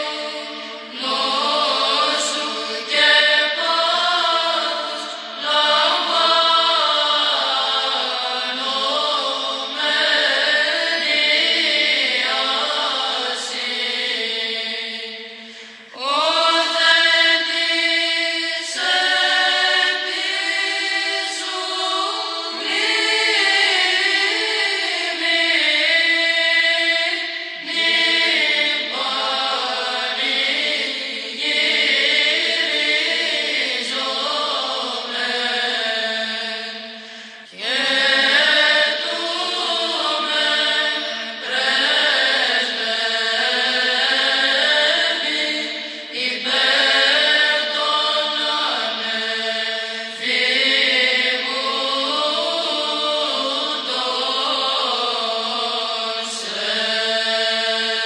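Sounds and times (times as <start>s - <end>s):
voices chanting long phrases: 0.0s - 58.0s.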